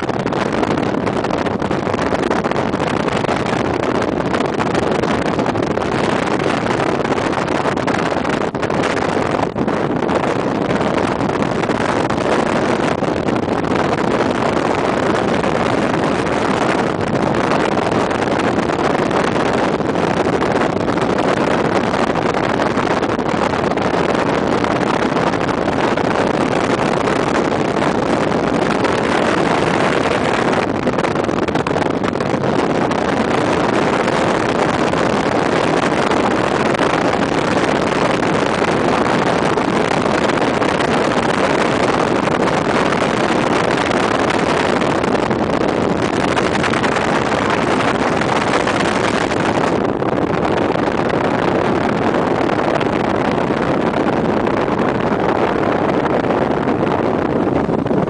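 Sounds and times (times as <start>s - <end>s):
wind and road noise: 0.0s - 58.0s
wind buffeting microphone: 0.0s - 58.0s.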